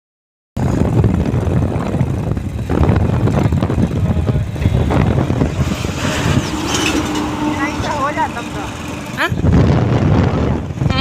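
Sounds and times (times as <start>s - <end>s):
diesel truck engine rumbling: 0.6s - 11.0s.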